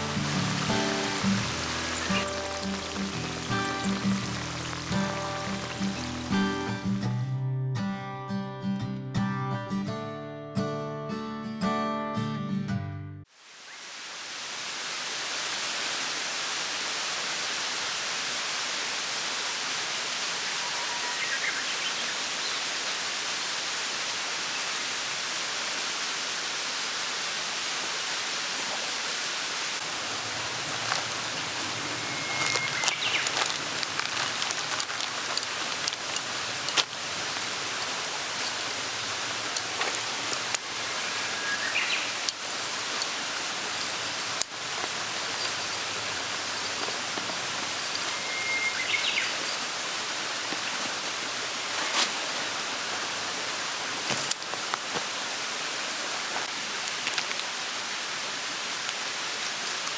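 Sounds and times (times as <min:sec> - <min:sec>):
stream rushing: 0:00.0 - 0:07.0, 0:13.3 - 0:59.9.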